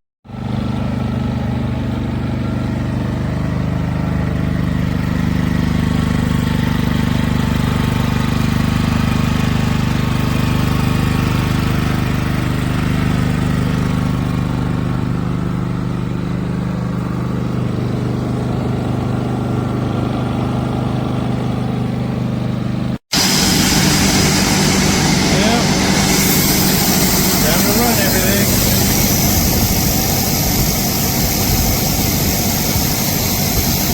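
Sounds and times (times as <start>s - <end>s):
generator running steadily: 0.3s - 33.9s.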